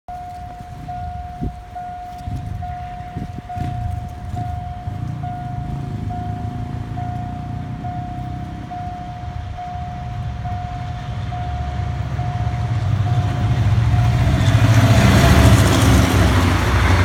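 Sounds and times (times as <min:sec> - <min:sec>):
level crossing warning tone: 0:00.1 - 0:17.0
low engine rumble: 0:00.1 - 0:17.0.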